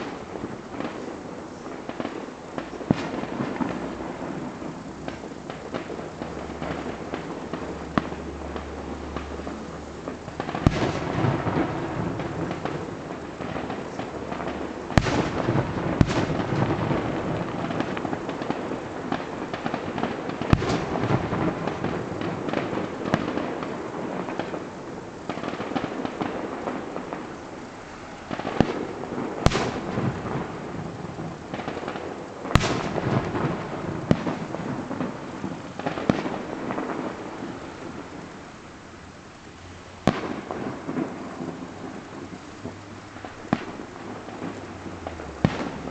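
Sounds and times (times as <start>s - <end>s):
fireworks bangs: 0.0s - 45.9s
fireworks rumble and crackle: 0.0s - 45.9s
rolling echo off hills: 0.0s - 45.9s.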